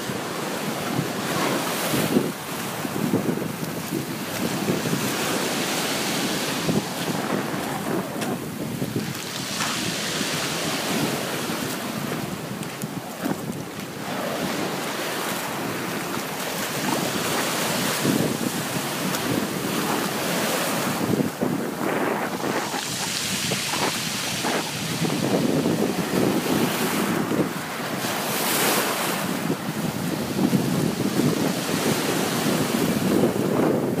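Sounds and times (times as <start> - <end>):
small surf washing ashore: 0.0 - 34.0
wind gusting on microphone: 0.0 - 34.0.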